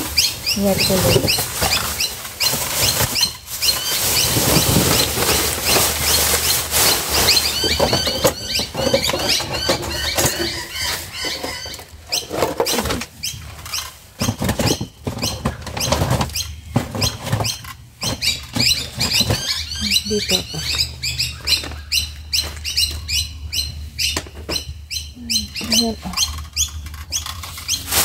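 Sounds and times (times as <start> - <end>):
plastic bags rustling: 0.0 - 23.1, 25.8 - 28.0
high squeaky chirps: 0.1 - 28.0.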